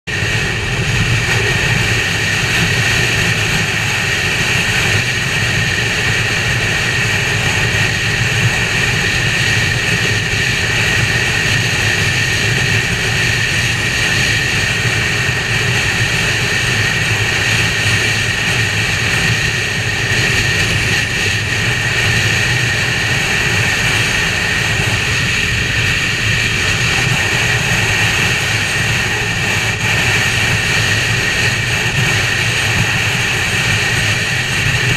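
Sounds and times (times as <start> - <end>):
motorcycle engine drone: 0.0 - 34.9
wind and road noise: 0.1 - 34.9.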